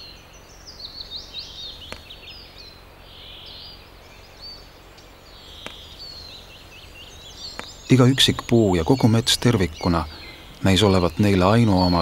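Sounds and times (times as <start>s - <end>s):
faint steady low hum: 0.0s - 12.0s
forest birds chirping: 0.0s - 12.0s.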